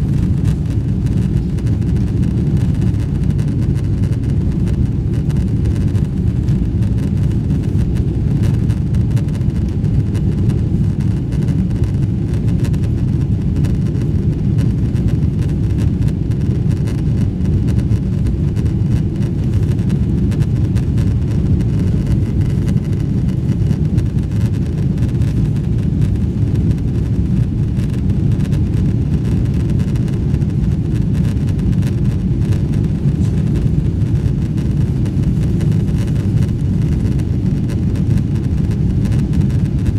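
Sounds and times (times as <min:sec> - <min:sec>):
airplane cabin low rumble: 0:00.0 - 0:39.9.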